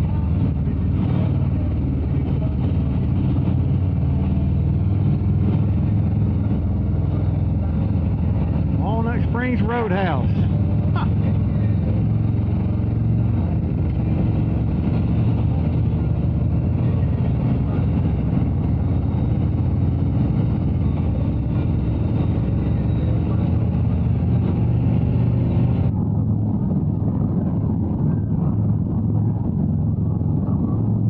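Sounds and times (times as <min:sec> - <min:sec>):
motorcycle engine cruising: 0:00.0 - 0:31.0
road and wind noise: 0:00.0 - 0:31.0.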